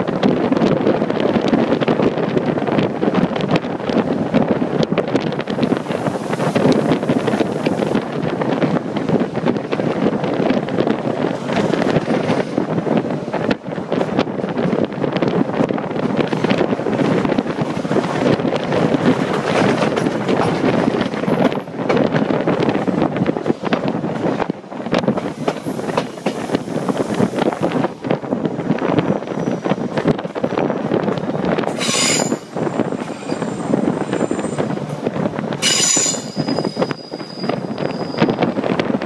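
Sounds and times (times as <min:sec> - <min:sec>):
train running on rails: 0:00.0 - 0:39.0
wind buffeting microphone: 0:00.0 - 0:39.0.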